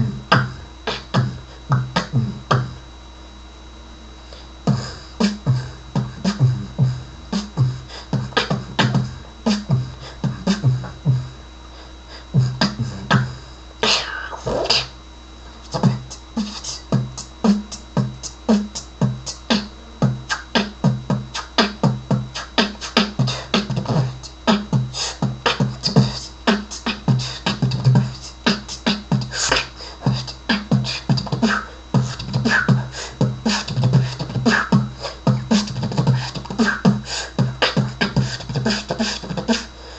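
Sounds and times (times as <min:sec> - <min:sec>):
beatboxing: 0:00.0 - 0:02.8, 0:04.3 - 0:11.4, 0:12.1 - 0:15.0, 0:15.6 - 0:39.9
vocal glide: 0:00.0 - 0:02.8, 0:04.3 - 0:39.9.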